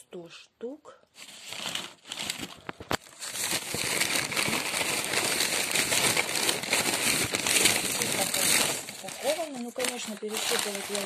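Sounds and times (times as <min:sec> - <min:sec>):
paper packing crinkling: 0:01.2 - 0:11.0.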